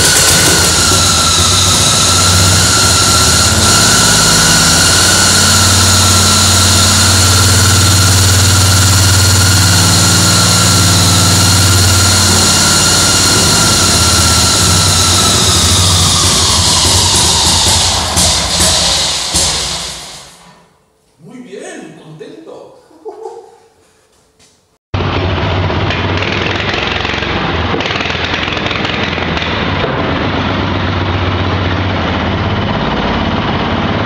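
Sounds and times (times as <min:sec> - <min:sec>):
motorcycle engine running: 0:00.0 - 0:19.8, 0:25.0 - 0:34.0.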